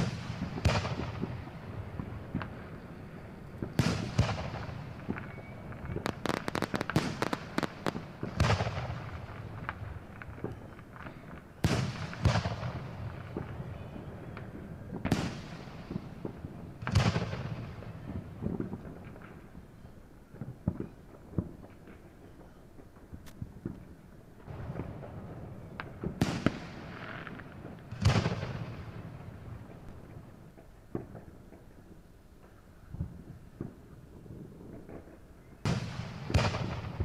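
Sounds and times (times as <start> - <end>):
firework booms echoing: 0.0 - 19.4, 24.4 - 31.4, 33.0 - 37.0
firework crackling pops: 0.0 - 37.0.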